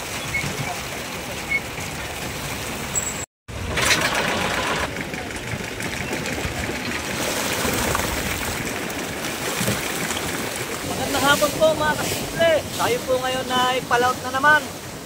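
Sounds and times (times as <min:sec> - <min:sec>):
boat engine rattling: 0:00.0 - 0:15.0.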